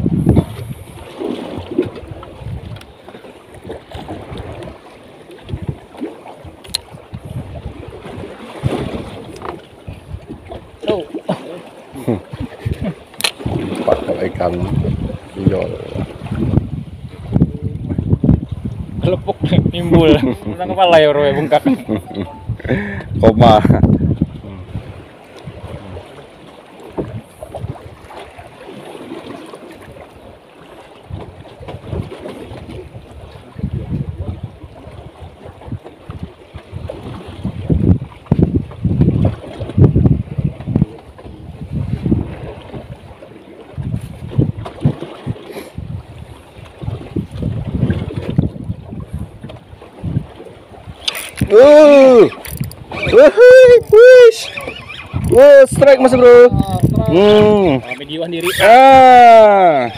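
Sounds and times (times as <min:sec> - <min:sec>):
wind buffeting microphone: 0:00.0 - 0:11.1, 0:12.0 - 0:30.4, 0:31.0 - 0:59.9
water against boat hull: 0:00.0 - 0:59.9.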